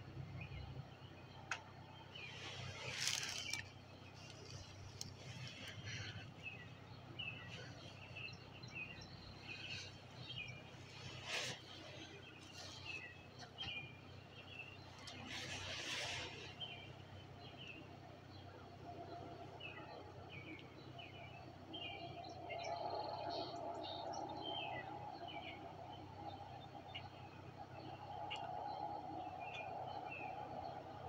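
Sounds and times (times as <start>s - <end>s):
faint bird chirping: 0.1s - 31.0s.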